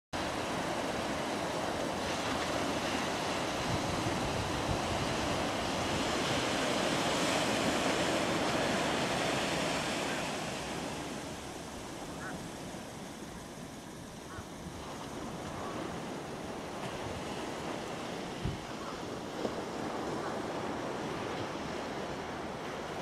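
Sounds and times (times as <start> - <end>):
small waves breaking on sand: 0.2 - 23.0
wind buffeting microphone: 0.2 - 23.0.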